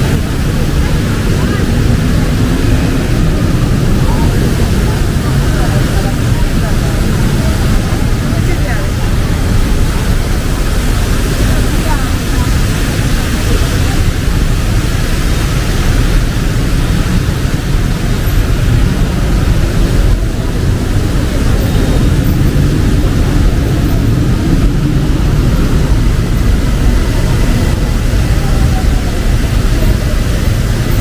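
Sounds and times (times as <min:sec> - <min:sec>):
city street traffic rumble: 0:00.0 - 0:31.0.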